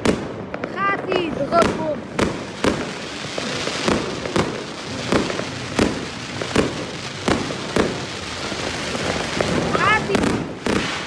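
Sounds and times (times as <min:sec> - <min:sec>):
crackling hiss: 0:00.0 - 0:11.0
fireworks bangs: 0:00.0 - 0:11.0.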